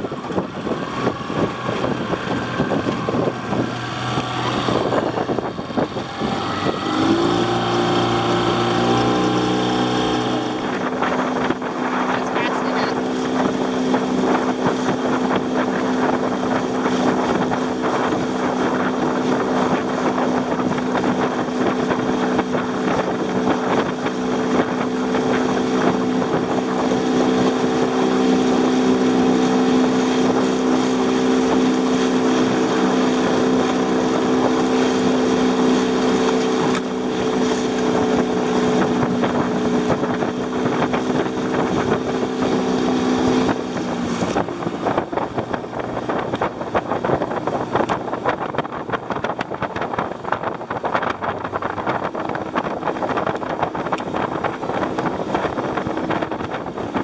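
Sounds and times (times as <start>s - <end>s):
outboard motor humming: 0.0s - 57.0s
water splashing against hull: 0.0s - 57.0s
wind on microphone: 0.0s - 57.0s.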